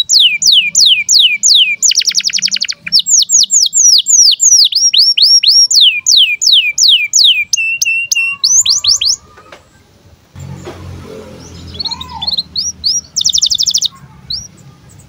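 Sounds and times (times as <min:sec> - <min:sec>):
canary singing whistled trill: 0:00.0 - 0:09.3, 0:11.4 - 0:14.6.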